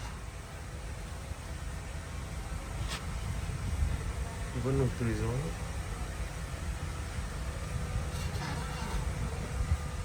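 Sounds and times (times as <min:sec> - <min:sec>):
mechanical hum and rumble: 0:00.0 - 0:10.0.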